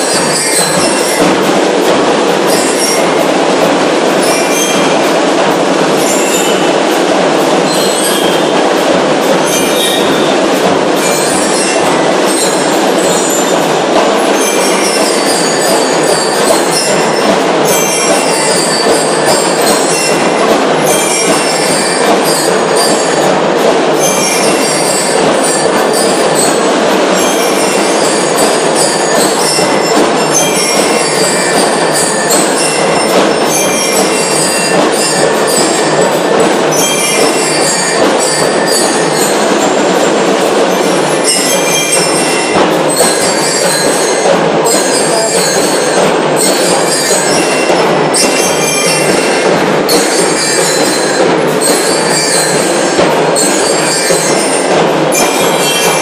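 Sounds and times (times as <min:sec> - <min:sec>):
high bell-lyre notes: 0:00.0 - 0:56.0
loud drumming: 0:00.0 - 0:56.0.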